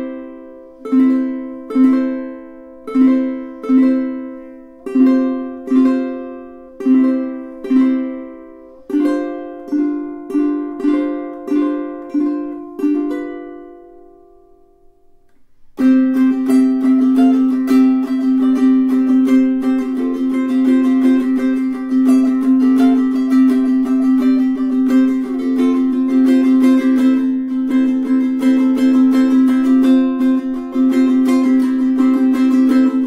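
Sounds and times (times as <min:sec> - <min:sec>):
brisk ukulele strumming: 0:00.0 - 0:33.0
ukulele chords ringing: 0:00.0 - 0:33.0.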